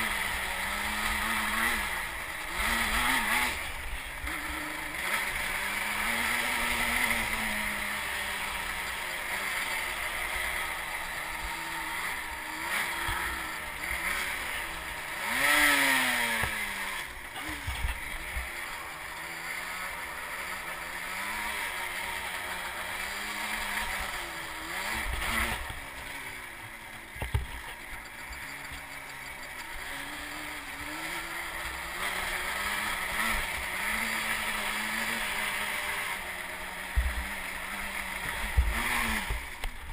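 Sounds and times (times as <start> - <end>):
atv engine revving: 0.0 - 39.9
quad knocking over bumps: 0.0 - 39.9.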